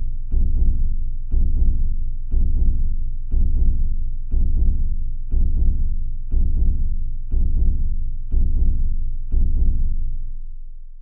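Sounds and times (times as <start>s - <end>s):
slow heartbeat: 0.0s - 10.0s.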